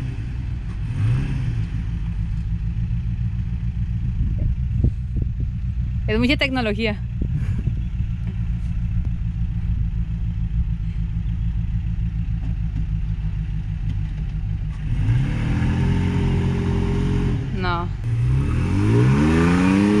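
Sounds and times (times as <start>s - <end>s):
vehicle engine idling and revving: 0.0s - 20.0s.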